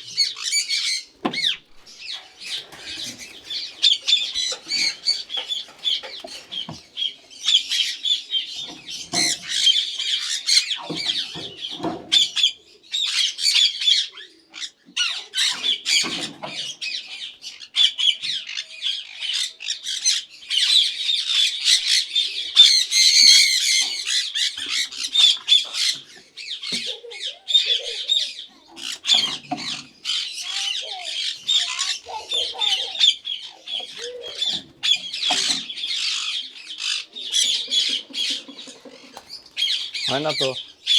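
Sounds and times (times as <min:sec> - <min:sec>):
parakeets squawking: 0:00.0 - 0:14.2, 0:16.9 - 0:40.9.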